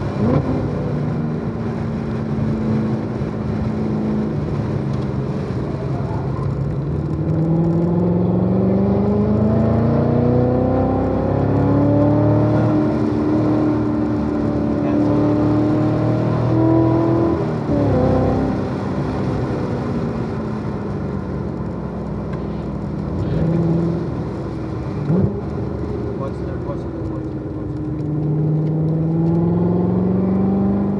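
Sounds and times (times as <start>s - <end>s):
car engine accelerating hard: 0.0s - 30.9s.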